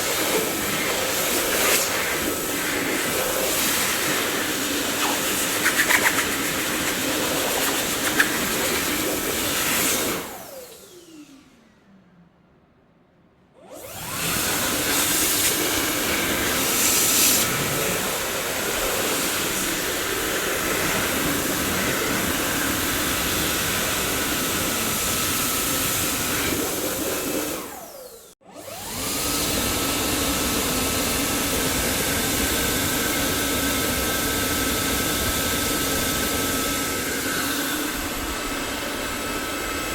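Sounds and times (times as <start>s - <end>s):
vacuum cleaner motor whine: 0.0s - 11.9s, 13.6s - 39.9s.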